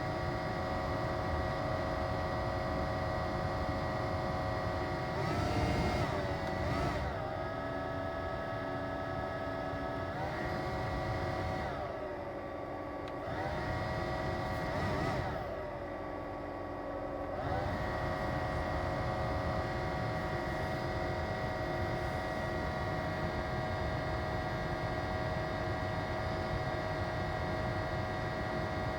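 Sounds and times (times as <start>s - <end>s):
blower fan whining: 0.0s - 28.9s.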